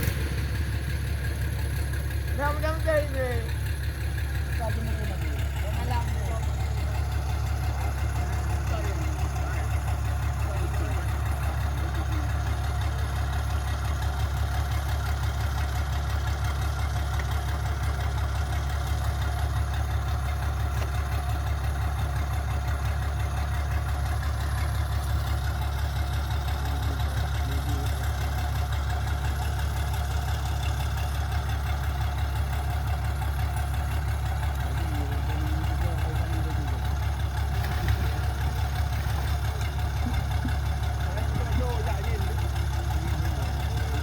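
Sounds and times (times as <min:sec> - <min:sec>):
excavator diesel engine idling: 0:00.0 - 0:44.0.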